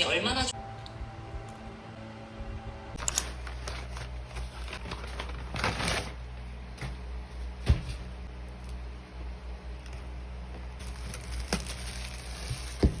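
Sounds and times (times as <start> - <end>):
low steady hum: 0.3 - 13.0.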